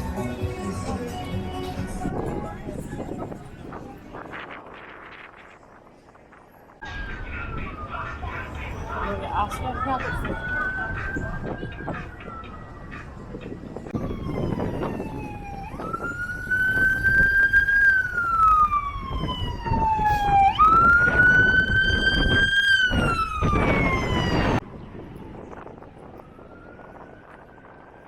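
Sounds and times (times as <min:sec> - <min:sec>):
emergency siren wailing: 0:00.0 - 0:05.8, 0:06.8 - 0:28.0
street noise: 0:00.0 - 0:28.0.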